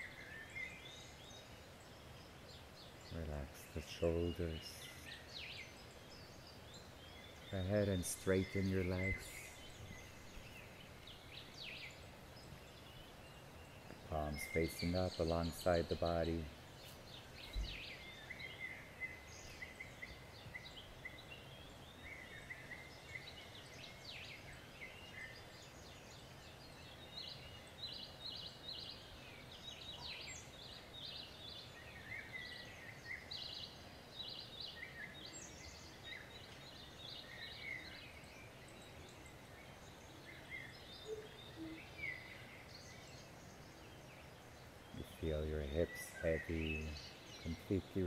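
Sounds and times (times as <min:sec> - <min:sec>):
birds chirping and trilling: 0:00.0 - 0:48.0
faint background noise: 0:00.0 - 0:48.0.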